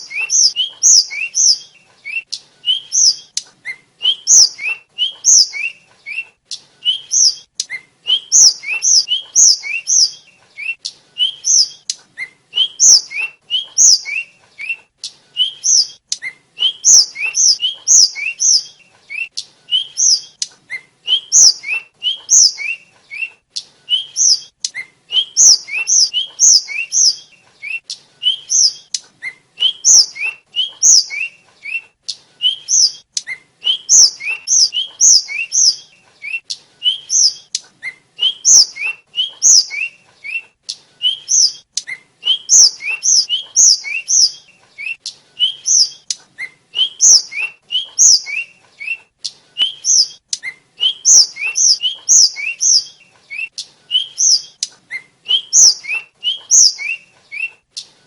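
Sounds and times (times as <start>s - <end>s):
bird singing whistled notes: 0.0s - 57.6s.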